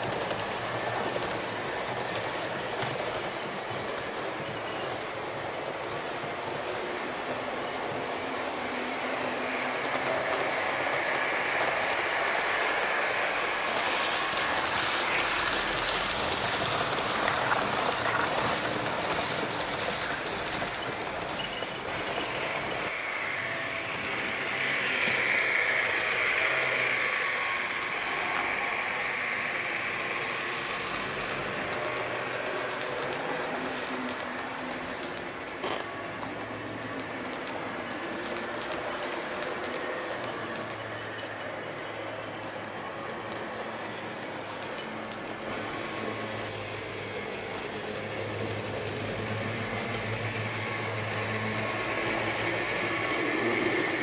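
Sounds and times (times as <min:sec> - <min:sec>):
model train rattling on track: 0:00.0 - 0:54.0
wheels clicking over rail joints: 0:00.0 - 0:54.0.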